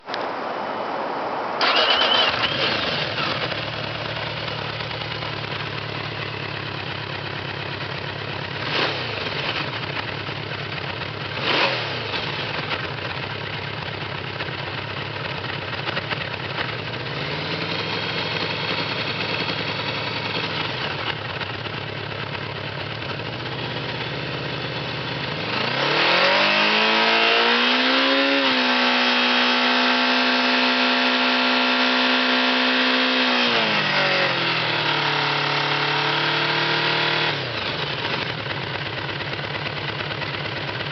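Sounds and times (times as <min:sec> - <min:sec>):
motorcycle engine revving: 0:01.6 - 0:40.9.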